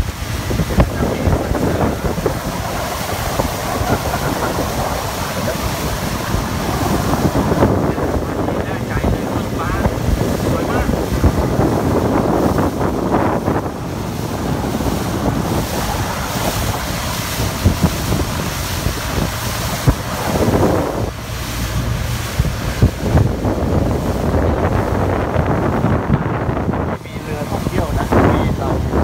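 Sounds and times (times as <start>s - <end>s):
water rushing past boat: 0.0s - 29.0s
wind buffeting microphone: 0.0s - 29.0s.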